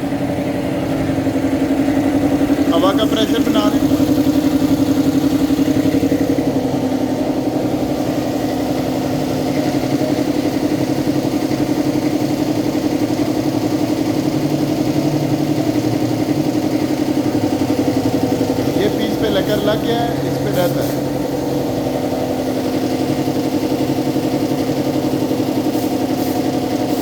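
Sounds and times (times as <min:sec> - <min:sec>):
air compressor pulsing hum: 0:00.0 - 0:27.0.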